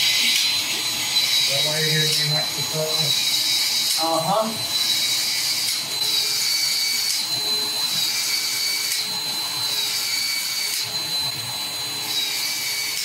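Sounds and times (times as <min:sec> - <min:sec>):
expansion tool motor whine: 0:00.0 - 0:13.0.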